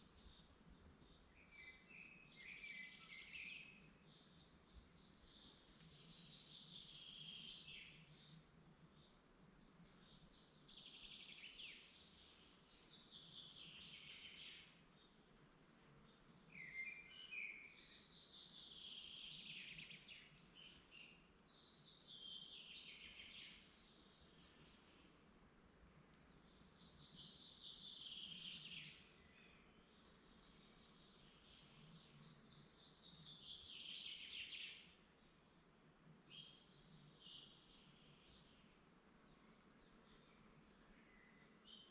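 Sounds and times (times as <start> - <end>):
songbird singing: 0.0 - 41.9
woodland background: 0.0 - 41.9.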